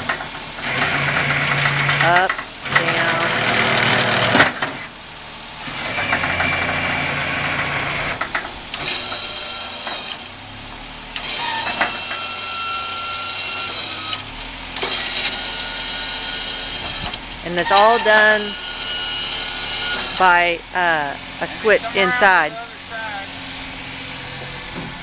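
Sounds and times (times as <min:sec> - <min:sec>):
hydraulic pump whining: 0:00.0 - 0:25.0
truck engine idling: 0:00.0 - 0:25.0.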